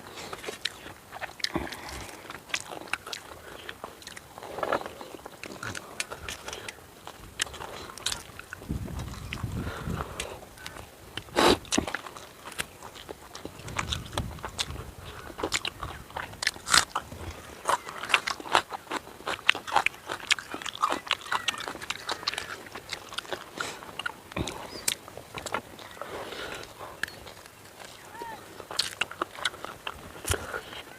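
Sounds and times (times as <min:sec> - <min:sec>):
person chewing and crunching food: 0:00.0 - 0:30.9.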